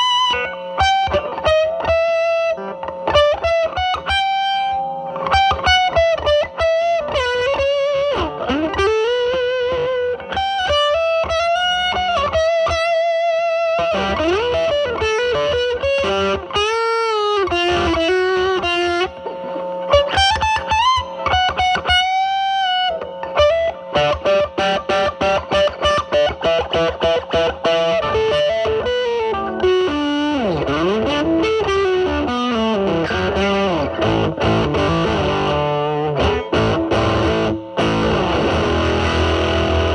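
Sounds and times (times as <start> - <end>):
fuzz electric guitar lead: 0.0 - 39.9.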